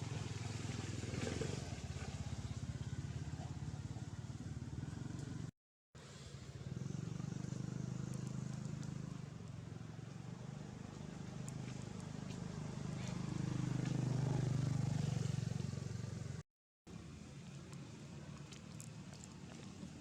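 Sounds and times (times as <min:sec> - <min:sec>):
small engine running: 0:00.0 - 0:16.4.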